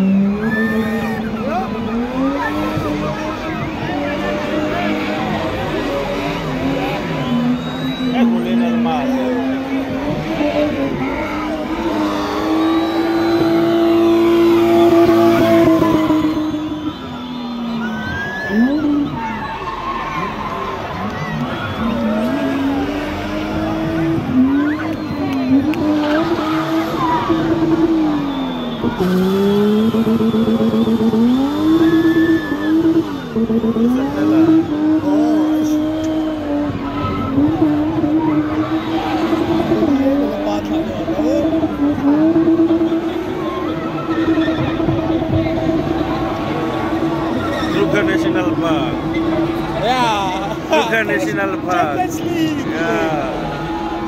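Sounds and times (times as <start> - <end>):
engine revving high: 0.0 - 19.3, 20.8 - 54.0.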